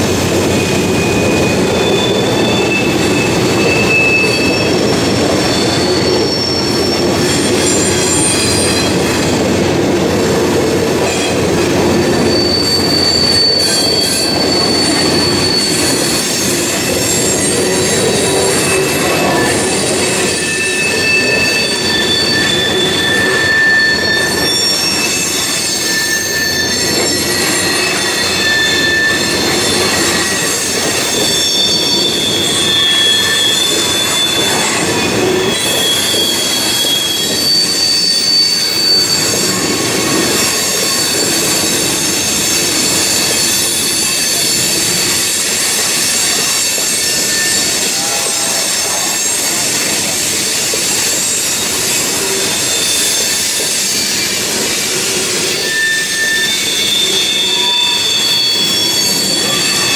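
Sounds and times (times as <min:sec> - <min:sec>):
high-pitched wheel squeal: 0:00.0 - 0:09.8, 0:10.9 - 0:59.9
freight train wheels rumbling: 0:00.0 - 0:59.9.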